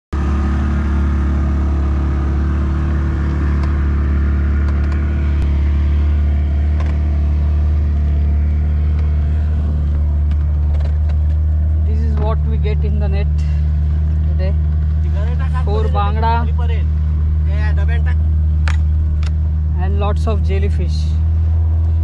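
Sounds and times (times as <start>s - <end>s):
outboard motor droning: 0.1s - 22.0s.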